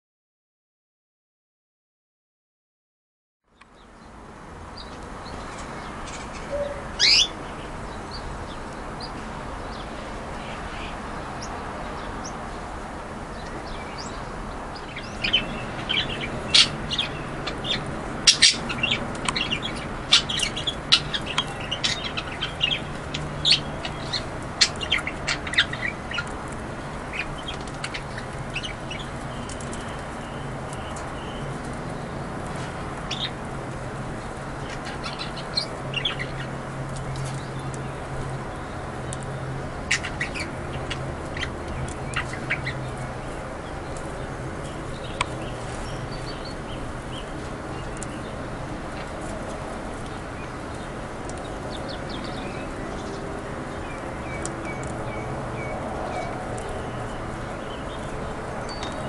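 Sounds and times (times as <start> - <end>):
small birds chirping: 3.5 - 59.0.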